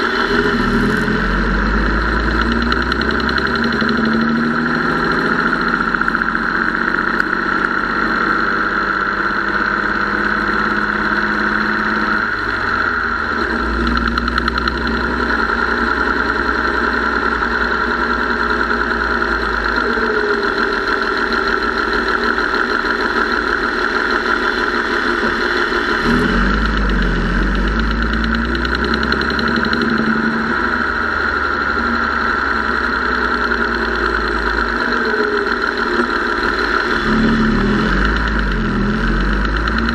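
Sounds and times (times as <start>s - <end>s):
engine ticking clatter: 0.0s - 39.9s.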